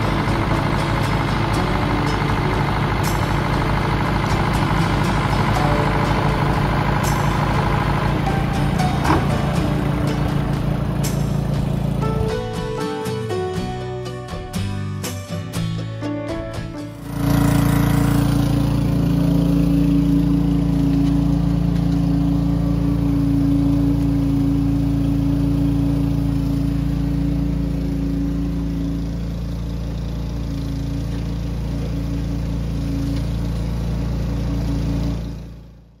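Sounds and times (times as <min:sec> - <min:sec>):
sawmill mechanical drone: 0:00.0 - 0:36.0.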